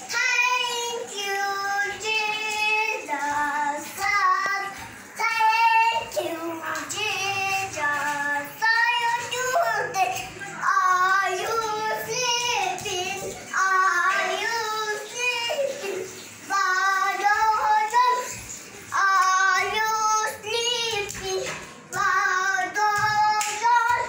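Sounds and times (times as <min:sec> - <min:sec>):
child singing: 0:00.0 - 0:24.0.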